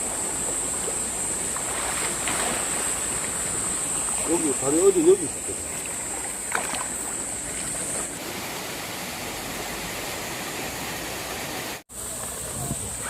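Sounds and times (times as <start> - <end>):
stream flowing over rocks: 0.0 - 12.5
steady high hiss: 0.0 - 13.0.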